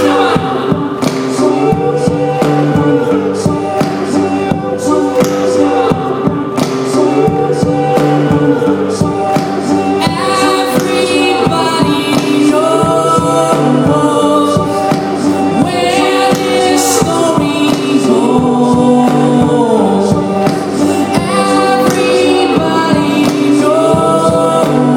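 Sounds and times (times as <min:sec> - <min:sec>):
steady drum beat: 0:00.0 - 0:24.9
voices singing long notes: 0:00.0 - 0:24.9.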